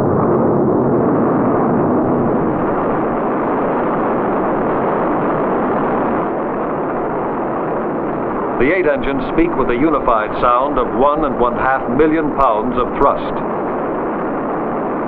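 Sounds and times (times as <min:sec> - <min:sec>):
rocket engines firing: 0:00.0 - 0:15.0.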